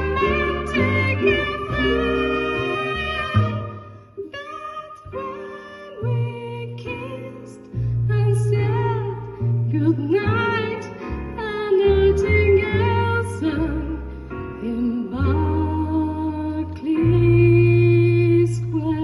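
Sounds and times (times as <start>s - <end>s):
sustained bass notes: 0.0s - 19.0s
woman singing a jazz ballad: 0.0s - 19.0s.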